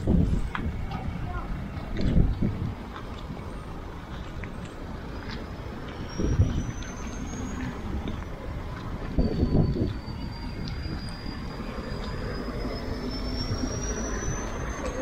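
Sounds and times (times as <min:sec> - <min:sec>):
hum of passing vehicles: 0:00.0 - 0:15.0.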